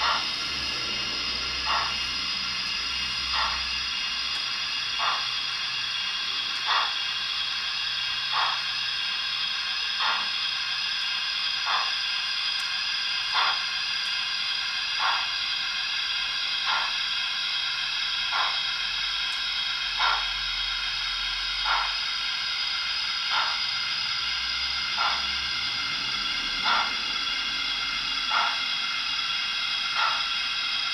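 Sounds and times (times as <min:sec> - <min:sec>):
steam exhaust beats: 0:00.0 - 0:30.9
steam hiss: 0:00.0 - 0:30.9.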